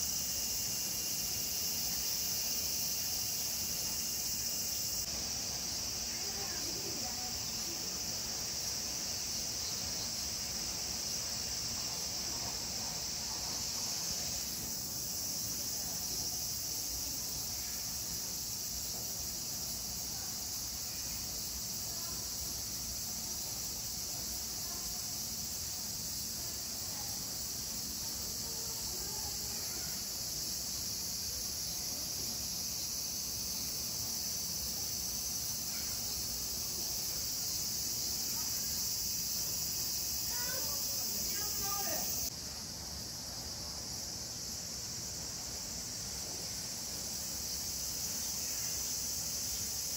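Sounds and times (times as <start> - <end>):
cicadas droning: 0.0 - 49.9.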